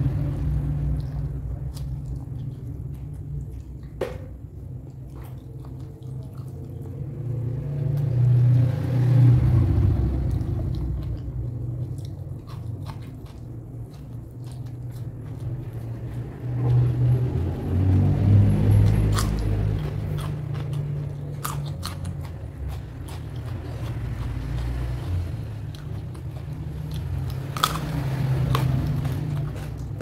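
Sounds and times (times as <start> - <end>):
person chewing: 0.8 - 8.1, 9.7 - 17.4, 18.8 - 30.0.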